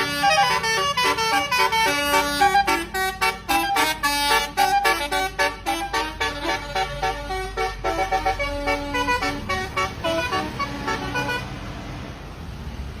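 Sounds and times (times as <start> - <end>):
multi-tone bus horn melody: 0.0 - 11.8.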